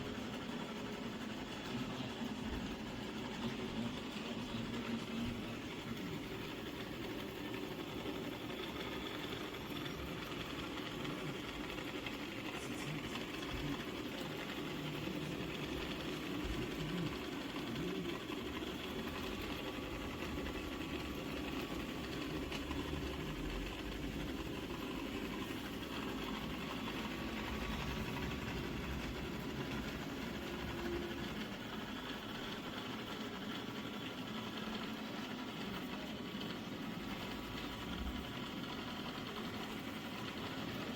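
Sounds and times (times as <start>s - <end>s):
robot vacuum humming: 0.0s - 40.9s.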